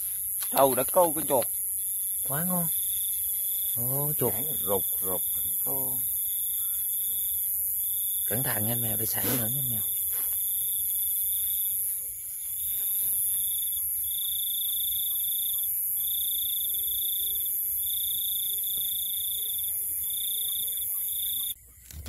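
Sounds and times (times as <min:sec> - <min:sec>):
high-pitched insect hiss: 0:00.0 - 0:21.6
insects trilling: 0:00.0 - 0:22.0.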